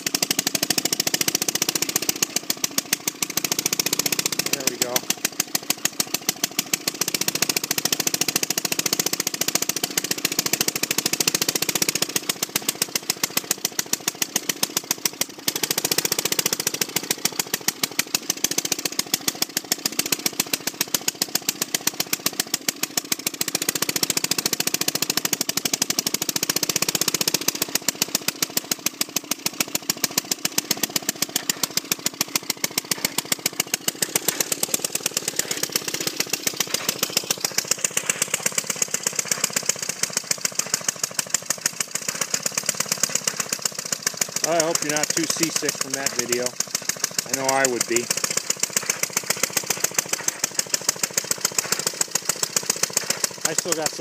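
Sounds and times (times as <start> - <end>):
two-stroke engine popping: 0.0 - 54.0.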